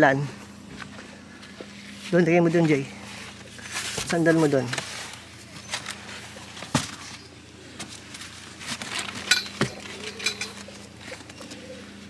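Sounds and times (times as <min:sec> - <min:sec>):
faint steady hum: 0:00.0 - 0:12.0
rustling: 0:01.0 - 0:11.8.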